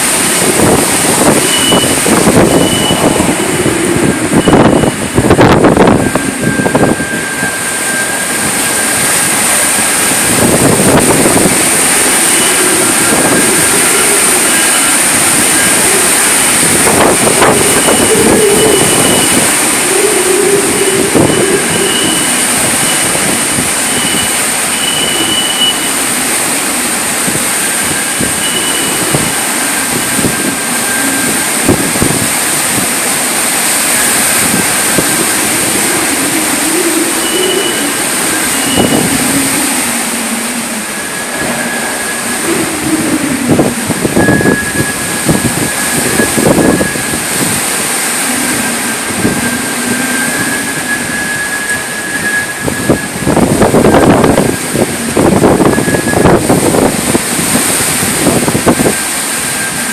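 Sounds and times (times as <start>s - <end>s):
faint wind whistling: 0.0s - 59.9s
strong wind gusting: 0.0s - 59.9s.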